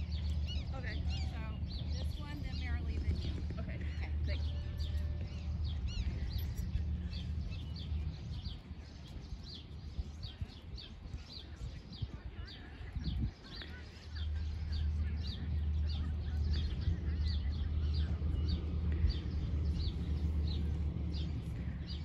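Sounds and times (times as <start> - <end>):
low outdoor rumble: 0.0 - 22.0
songbirds chirping: 0.0 - 22.0.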